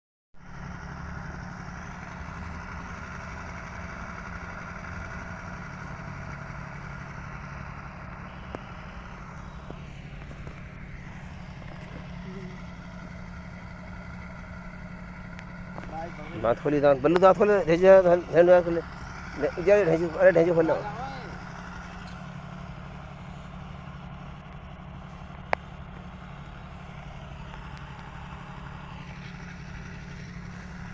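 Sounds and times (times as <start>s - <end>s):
engine running with low hum: 0.4s - 30.9s.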